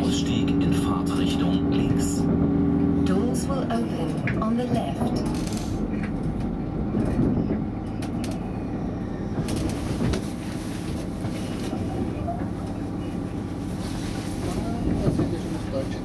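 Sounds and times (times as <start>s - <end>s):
railcar engine and wheels rumbling: 0.0s - 16.0s.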